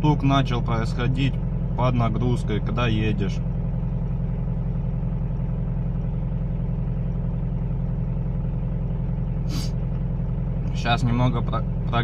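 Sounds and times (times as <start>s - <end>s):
engine idling with steady knock: 0.0s - 12.0s.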